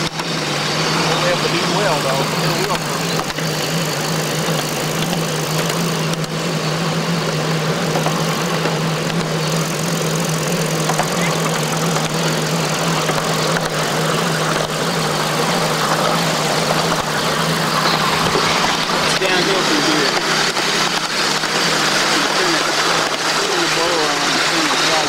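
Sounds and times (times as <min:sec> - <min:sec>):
low hum: 0:00.0 - 0:25.0
steam locomotive running: 0:00.0 - 0:25.0.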